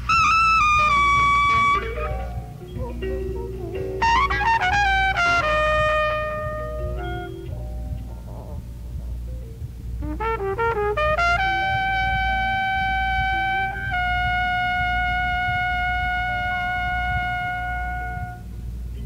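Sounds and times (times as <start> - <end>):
trumpet solo: 0.0 - 7.6, 10.0 - 18.7
faint accompaniment: 0.0 - 19.0
low audience hum: 0.0 - 19.0.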